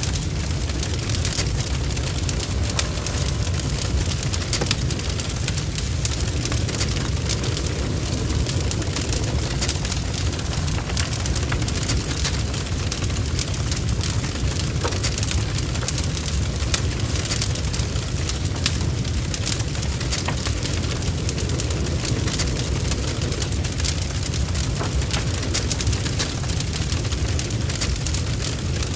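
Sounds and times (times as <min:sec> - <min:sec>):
fire crackling and spitting: 0:00.0 - 0:28.9
fire rumbling: 0:00.0 - 0:28.9.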